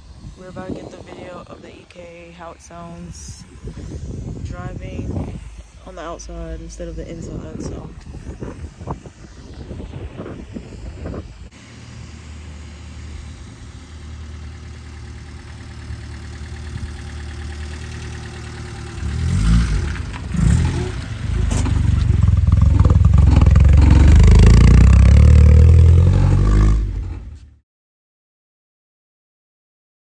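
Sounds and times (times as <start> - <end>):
deep exhaust drone: 0.0 - 27.6
car engine revving: 0.6 - 27.6.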